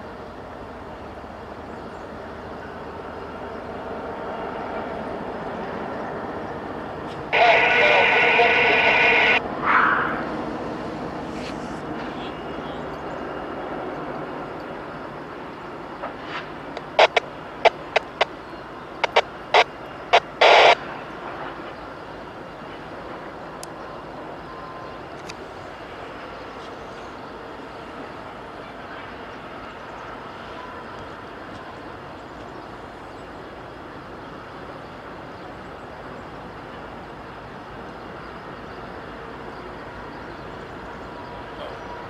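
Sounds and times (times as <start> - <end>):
train engines and wheels rumbling: 0.0 - 42.0.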